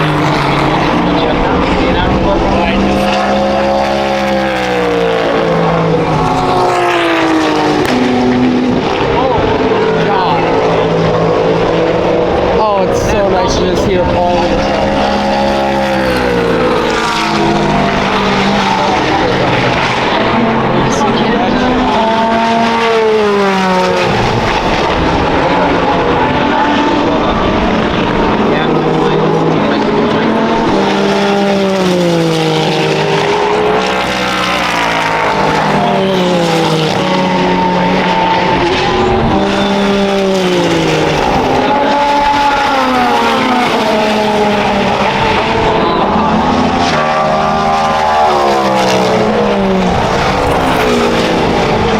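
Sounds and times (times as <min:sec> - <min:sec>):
race car engine passing by: 0:00.0 - 0:51.9.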